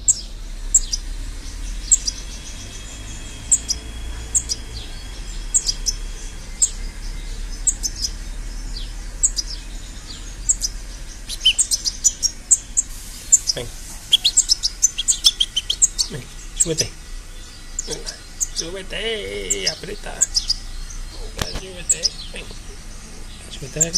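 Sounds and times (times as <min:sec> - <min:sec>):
songbird chirping: 0:00.0 - 0:23.9.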